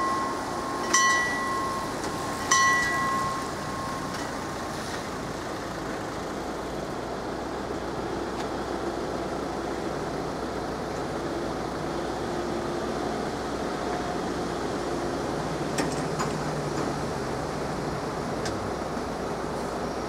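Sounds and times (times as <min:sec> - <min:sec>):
light rain: 0:00.0 - 0:20.0
road traffic hum: 0:00.0 - 0:20.0.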